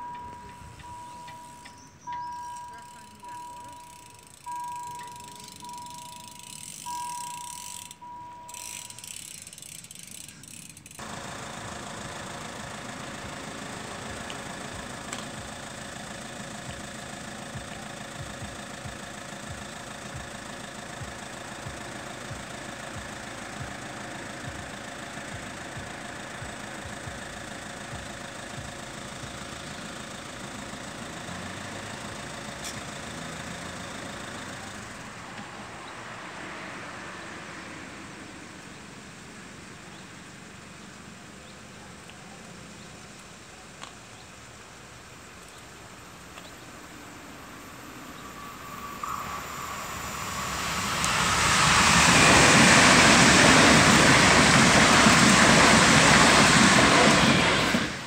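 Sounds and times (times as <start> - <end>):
high-speed train passing: 0.0 - 38.7, 46.6 - 58.0
low engine hum: 0.0 - 58.0.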